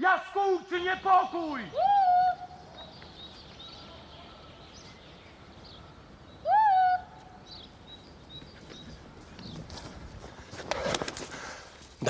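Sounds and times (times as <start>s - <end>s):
small birds chirping: 0.0s - 11.8s.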